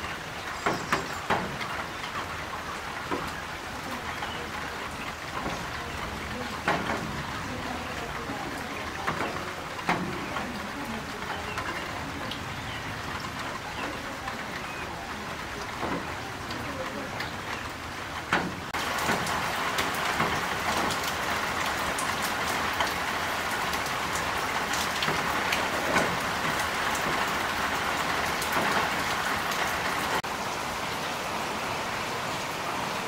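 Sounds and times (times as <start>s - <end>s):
raindrops ticking close by: 0.0s - 33.0s
steady rain falling: 0.0s - 33.0s.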